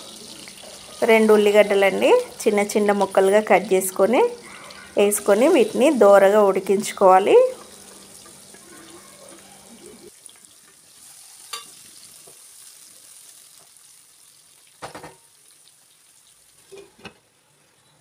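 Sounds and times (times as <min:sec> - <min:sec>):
onions sizzling in oil: 0:00.0 - 0:17.7.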